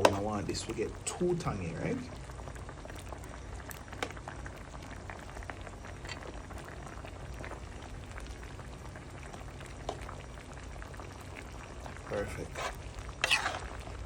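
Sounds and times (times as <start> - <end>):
broth bubbling in a pan: 0.0 - 14.0.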